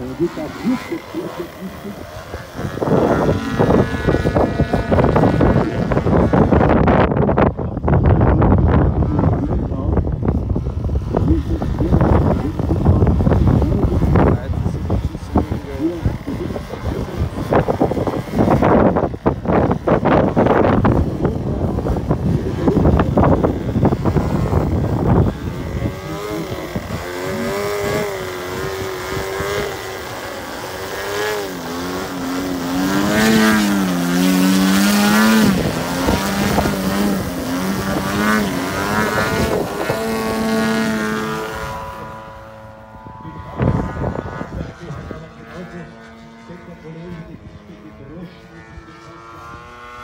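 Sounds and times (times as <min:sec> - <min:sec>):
model plane engine: 0:00.0 - 0:50.0.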